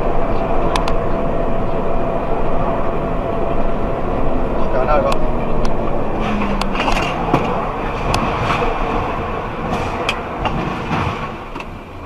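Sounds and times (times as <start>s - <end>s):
vehicle rushing: 0.0s - 12.0s.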